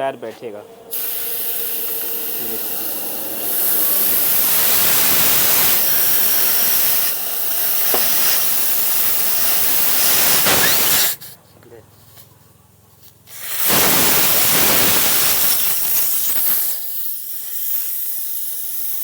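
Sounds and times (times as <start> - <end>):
compressed air hissing into tyre: 0.8 - 11.4, 13.2 - 19.0.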